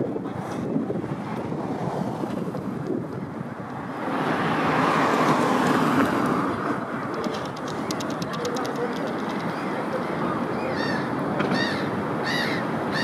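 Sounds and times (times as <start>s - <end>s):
street noise: 0.0s - 13.0s
wind rumbling on microphone: 0.0s - 13.0s.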